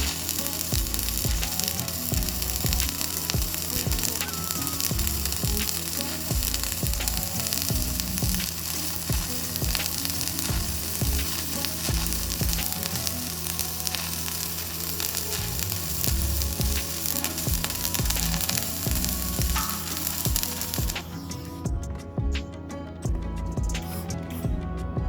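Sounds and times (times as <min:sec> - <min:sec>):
welding arc crackling and popping: 0:00.0 - 0:21.6.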